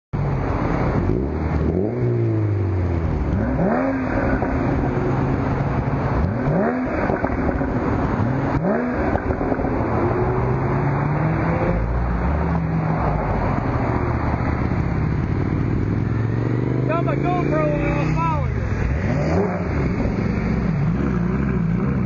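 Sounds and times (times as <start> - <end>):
sports car engine revving: 0.3 - 22.0.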